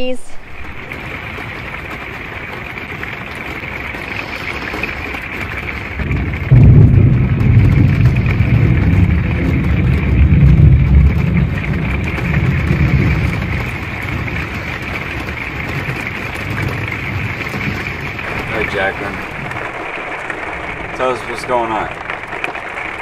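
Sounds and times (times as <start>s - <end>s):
heavy rain on roof: 0.0s - 23.0s
thunder clap and rumble: 0.2s - 23.0s.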